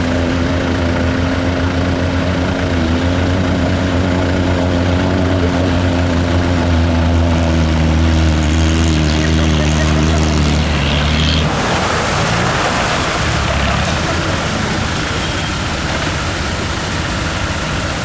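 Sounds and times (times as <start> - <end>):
vehicle engine running steadily: 0.0 - 18.0.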